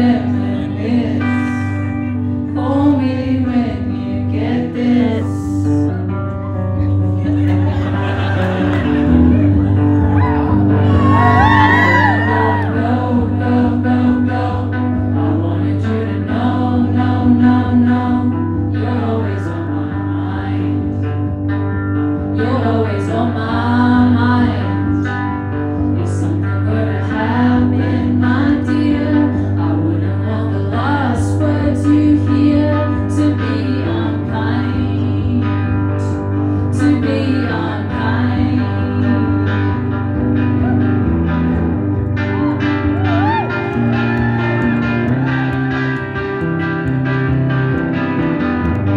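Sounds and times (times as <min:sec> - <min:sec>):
person singing: 0:00.0 - 0:21.3, 0:22.3 - 0:40.9
bass notes: 0:00.0 - 0:48.9
electric guitar: 0:00.0 - 0:48.9.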